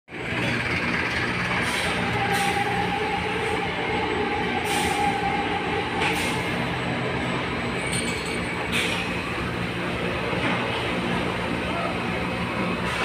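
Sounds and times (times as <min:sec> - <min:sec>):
crane diesel engine under load: 0:00.1 - 0:13.0.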